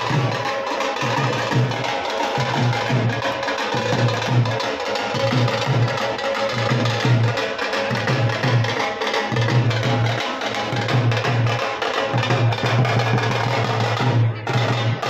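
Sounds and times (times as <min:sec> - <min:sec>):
loud fast drumming: 0:00.0 - 0:15.0
music: 0:00.0 - 0:15.0.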